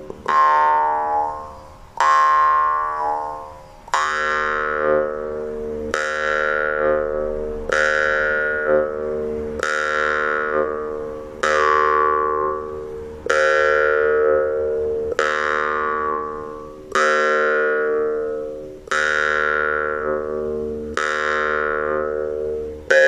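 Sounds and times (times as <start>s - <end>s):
jaw harp plucked: 0.0s - 23.0s.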